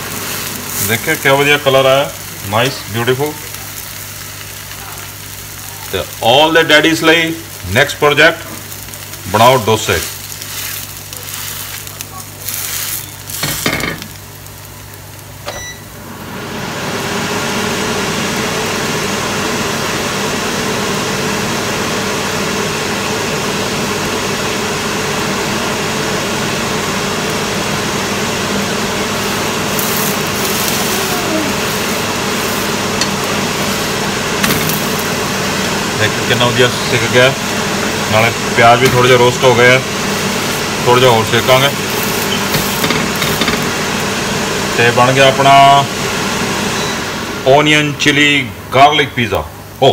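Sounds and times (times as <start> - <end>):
kitchen extractor fan running: 0.0 - 49.9.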